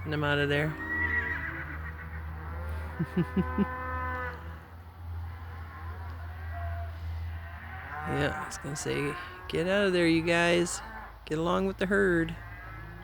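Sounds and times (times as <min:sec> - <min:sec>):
cattle mooing: 0:00.0 - 0:13.0.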